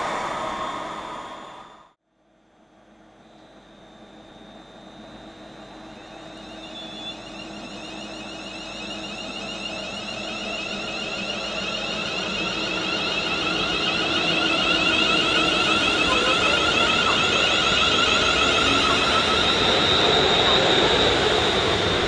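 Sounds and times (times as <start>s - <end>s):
electric train whining: 3.2s - 22.0s.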